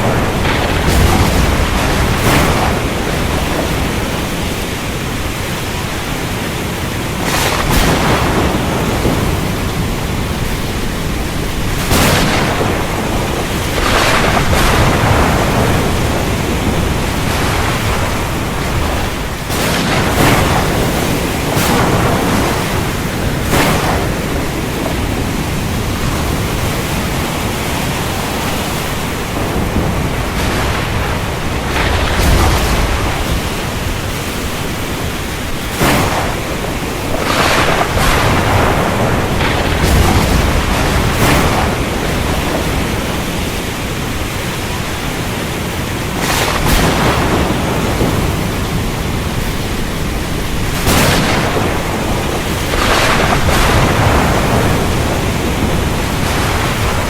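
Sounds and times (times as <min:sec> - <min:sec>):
heavy rain rushing: 0:00.0 - 0:57.0
thunder rumble and cracks: 0:00.0 - 0:57.0.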